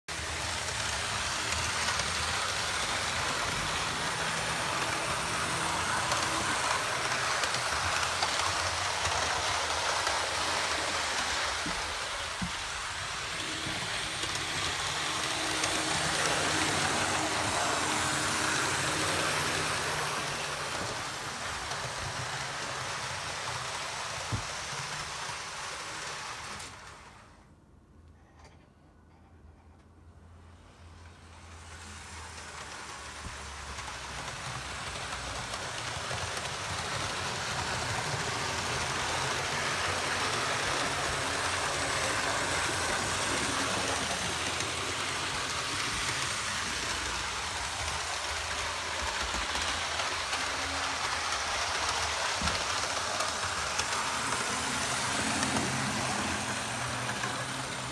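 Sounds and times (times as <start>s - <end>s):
model train motor whirring: 0.1s - 27.4s, 31.0s - 57.9s.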